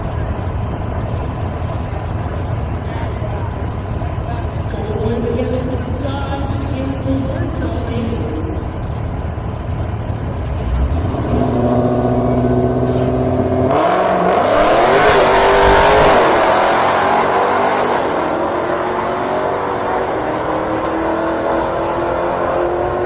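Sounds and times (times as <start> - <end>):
drag racing car engines revving: 0.0 - 23.0.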